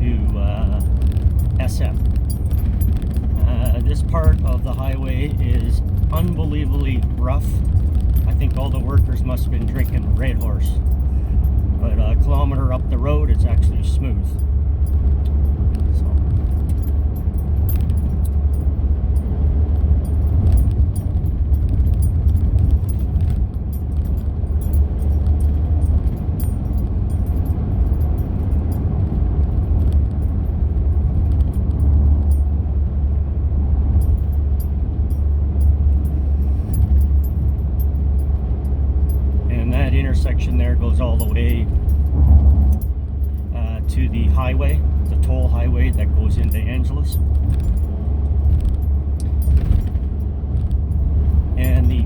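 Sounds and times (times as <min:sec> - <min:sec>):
car road rumble: 0:00.0 - 0:52.0.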